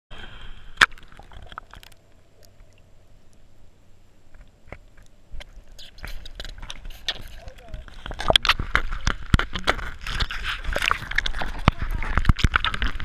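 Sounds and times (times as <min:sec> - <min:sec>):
underwater rumble: 0:00.1 - 0:13.0.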